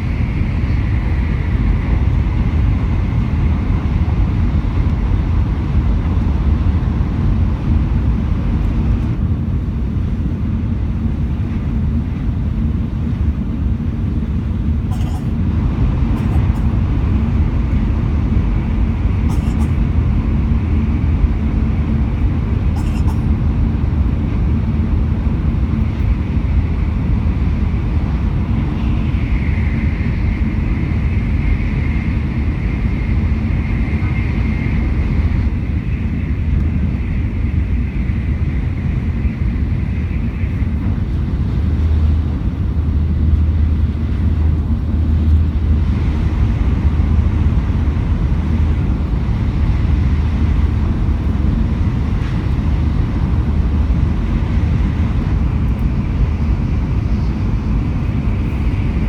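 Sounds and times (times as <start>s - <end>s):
faint steady whine: 0.0s - 59.0s
train low rumble: 0.0s - 59.0s.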